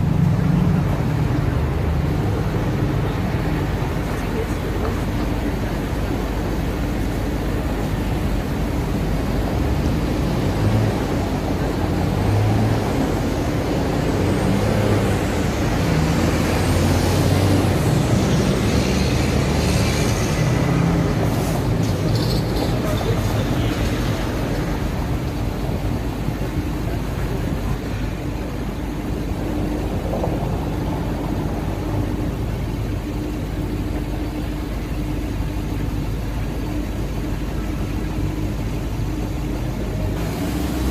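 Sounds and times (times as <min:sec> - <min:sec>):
cars driving past: 0:00.0 - 0:37.2, 0:38.1 - 0:40.9
traffic hum: 0:00.0 - 0:40.9
truck diesel engine: 0:00.0 - 0:40.9.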